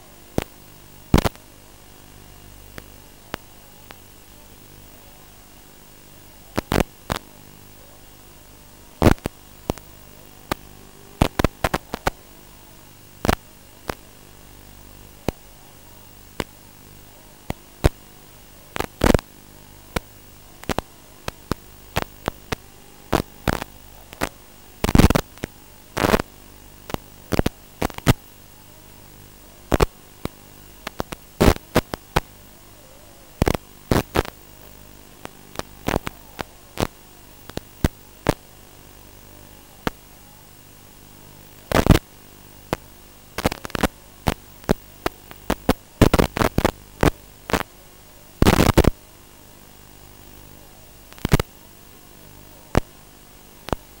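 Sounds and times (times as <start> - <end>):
radio static hum and hiss: 0.0 - 54.0
static crackles and pops: 0.0 - 54.0.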